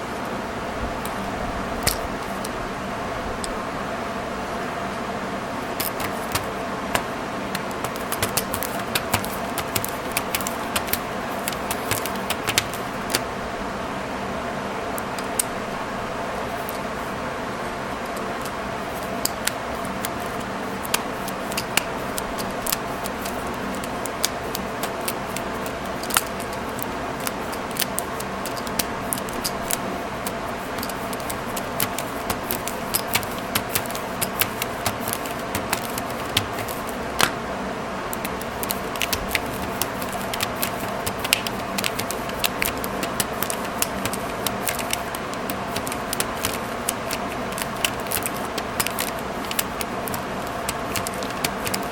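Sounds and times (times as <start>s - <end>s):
steady background hum: 0.0s - 51.9s.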